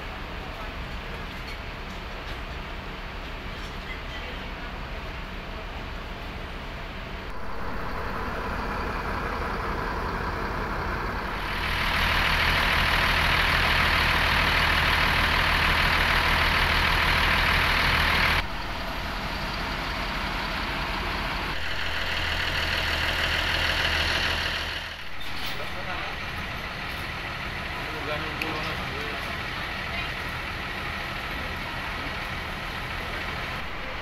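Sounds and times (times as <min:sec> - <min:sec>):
bus engines idling: 0:00.0 - 0:34.0.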